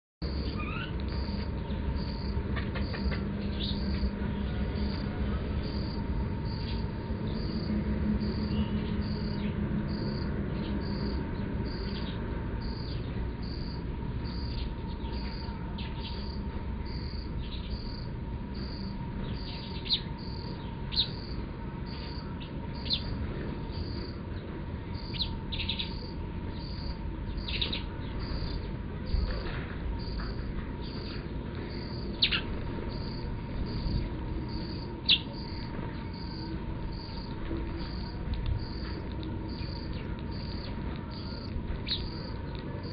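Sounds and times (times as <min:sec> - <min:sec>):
low background rumble: 0:00.2 - 0:42.9
sparrows chirping: 0:00.2 - 0:42.9.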